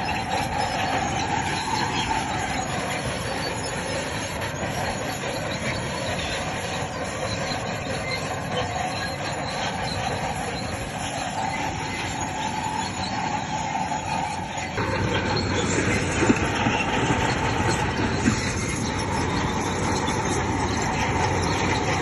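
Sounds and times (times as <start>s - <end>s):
diesel engine running: 0.0s - 22.0s
steel tracks squealing: 0.0s - 22.0s.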